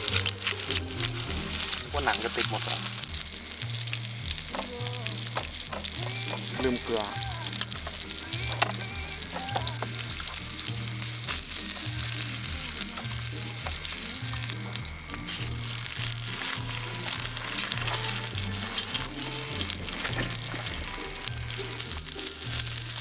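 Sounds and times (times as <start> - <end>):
food sizzling in a pan: 0.0 - 23.0
spattering fat pops: 0.0 - 23.0.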